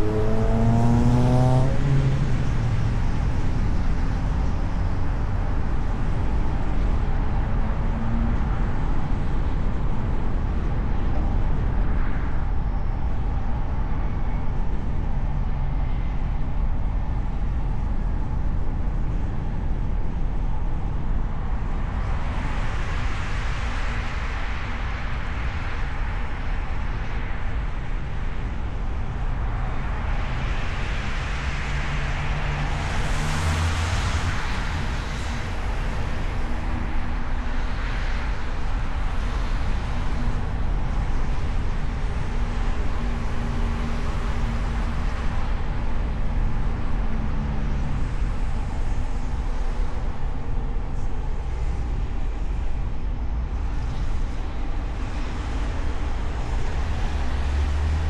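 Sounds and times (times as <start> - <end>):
engine hum: 0.0 - 58.0
passing traffic: 0.0 - 58.0.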